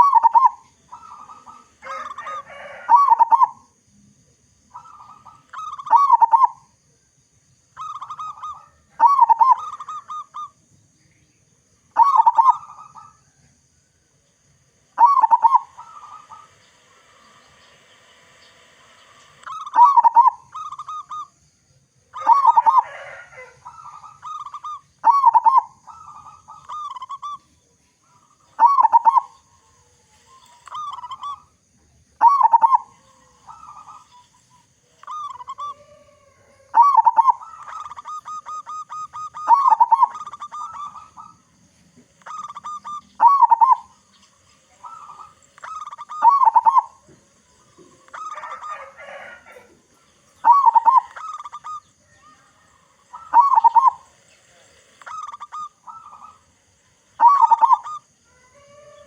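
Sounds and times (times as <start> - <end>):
dove cooing: 0.0 - 3.8, 4.6 - 6.8, 7.7 - 10.6, 11.9 - 13.6, 14.9 - 21.4, 22.0 - 31.6, 32.2 - 59.0.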